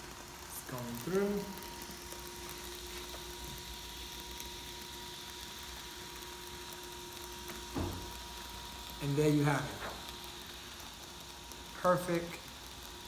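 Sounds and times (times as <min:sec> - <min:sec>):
laminator motor humming: 0:00.0 - 0:13.0.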